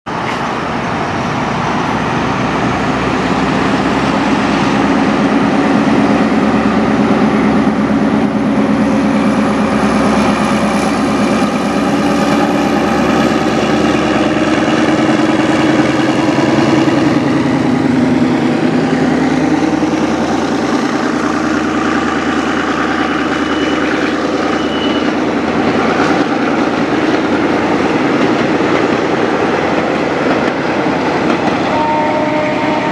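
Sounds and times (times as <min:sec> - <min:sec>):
diesel locomotive engine drone: 0:00.1 - 0:32.9
train coaches rolling past: 0:00.1 - 0:32.9.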